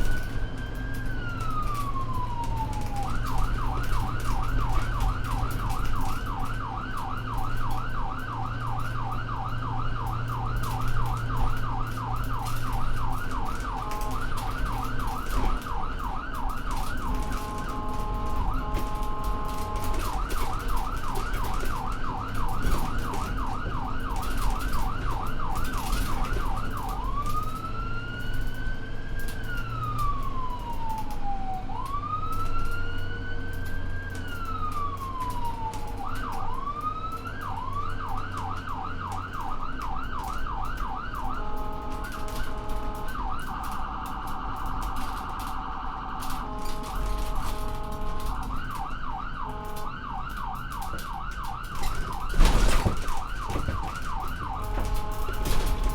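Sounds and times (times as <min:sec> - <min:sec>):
ambulance electronic siren: 0:00.0 - 0:55.9
low vehicle rumble: 0:00.0 - 0:55.9.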